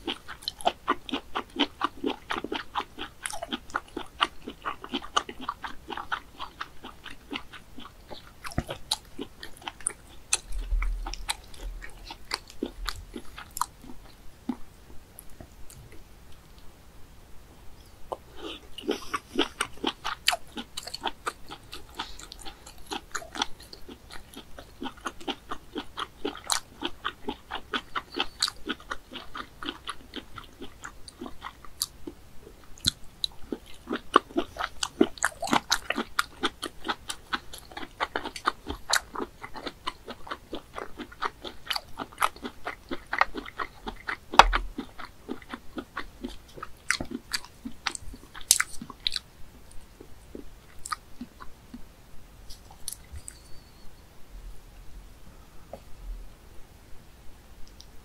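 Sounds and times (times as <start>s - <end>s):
person chewing with mouth clicks: 0.0s - 14.6s, 18.1s - 51.9s, 52.5s - 53.8s.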